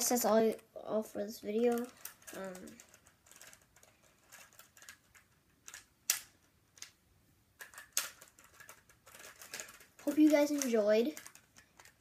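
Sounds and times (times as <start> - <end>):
plastic puzzle cube clicks: 1.7 - 7.0, 7.6 - 12.0.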